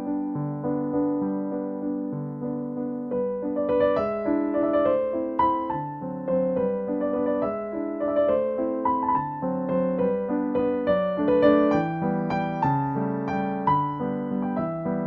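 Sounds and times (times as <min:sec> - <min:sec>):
electric piano melody: 0:00.0 - 0:15.0.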